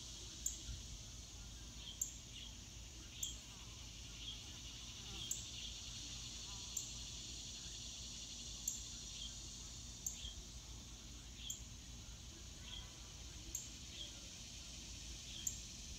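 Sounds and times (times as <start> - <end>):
insect chorus hiss: 0.0 - 15.9.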